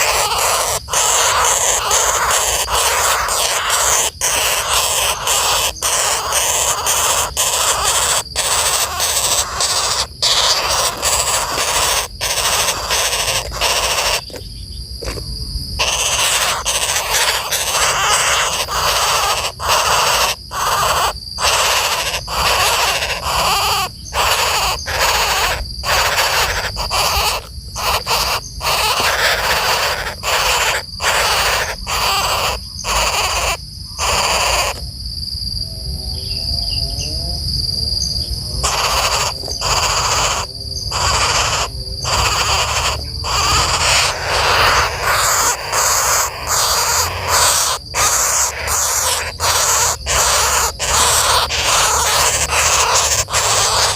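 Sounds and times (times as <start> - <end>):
birds rasping calls: 0.0 - 15.2, 15.8 - 34.8, 38.0 - 53.9
high-pitched insect drone: 0.0 - 53.9.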